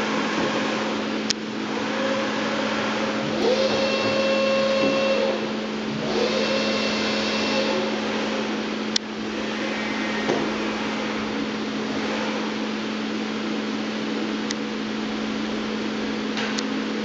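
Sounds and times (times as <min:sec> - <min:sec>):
milling machine humming: 0:00.0 - 0:17.0
motor whine: 0:00.0 - 0:17.0.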